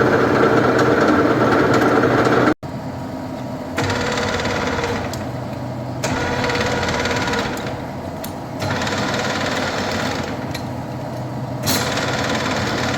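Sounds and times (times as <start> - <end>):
lathe whirring and clattering: 0.0 - 2.6, 3.4 - 12.9.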